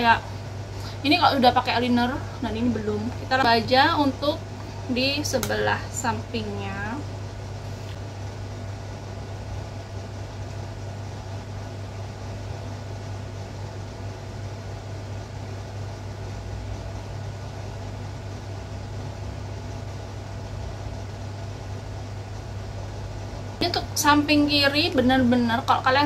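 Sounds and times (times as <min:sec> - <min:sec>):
low hum with faint hiss: 0:00.0 - 0:26.0.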